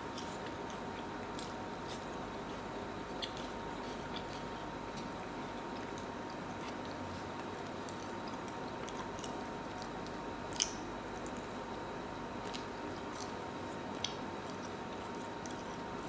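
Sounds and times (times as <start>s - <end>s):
person chewing food: 0.0s - 11.5s, 12.4s - 16.0s.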